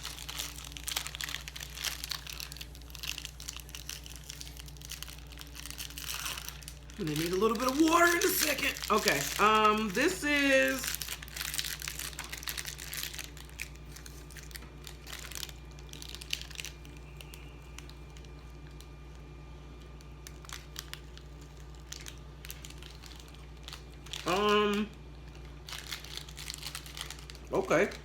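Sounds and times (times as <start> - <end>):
plastic wrapper crinkling: 0.0 - 28.0.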